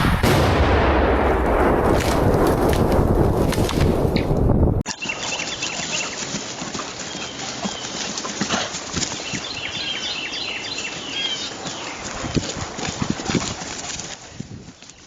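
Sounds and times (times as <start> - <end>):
horse hooves clopping: 1.9 - 15.0.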